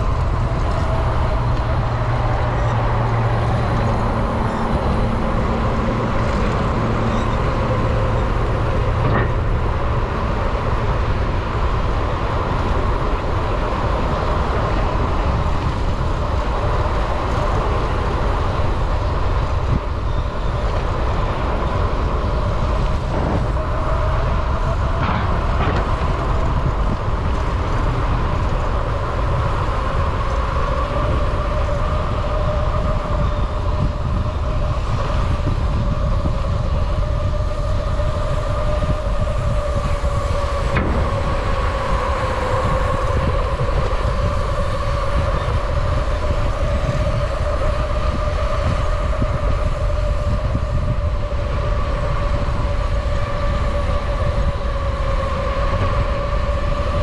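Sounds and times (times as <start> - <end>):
low hum: 0.0 - 57.0
rolling road noise: 0.0 - 57.0
wind rush: 0.0 - 57.0.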